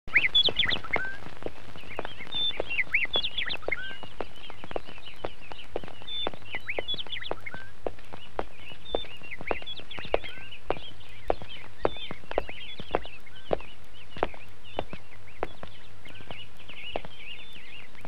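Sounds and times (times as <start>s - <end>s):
birds chirping: 0.0s - 18.0s
footsteps: 0.1s - 18.0s.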